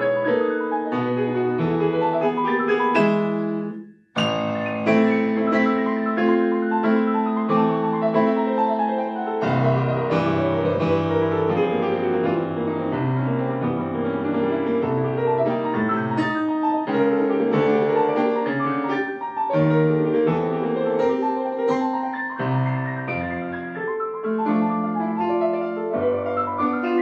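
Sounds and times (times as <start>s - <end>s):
solo grand piano: 0.0s - 27.0s.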